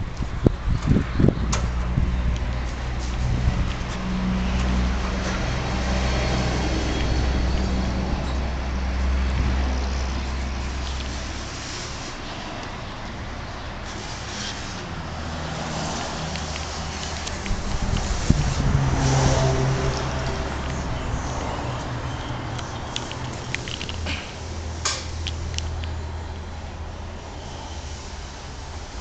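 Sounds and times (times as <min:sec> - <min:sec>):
road traffic noise: 0:00.0 - 0:29.0
vehicle engine humming: 0:00.0 - 0:29.0.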